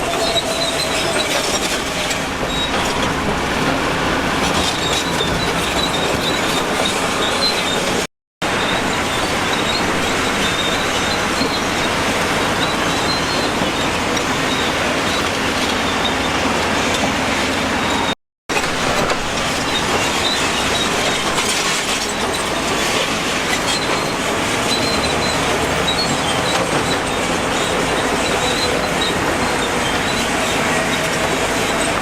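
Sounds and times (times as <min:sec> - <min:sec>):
heavy machinery running: 0:00.0 - 0:32.0.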